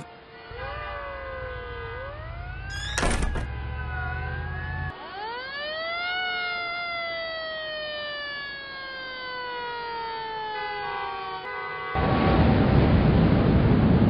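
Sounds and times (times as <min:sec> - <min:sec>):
siren wailing: 0:00.0 - 0:12.5.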